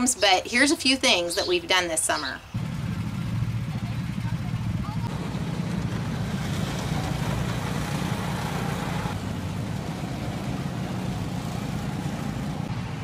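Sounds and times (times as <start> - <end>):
road noise: 0.0 - 13.0
vehicle engine drone: 2.6 - 13.0.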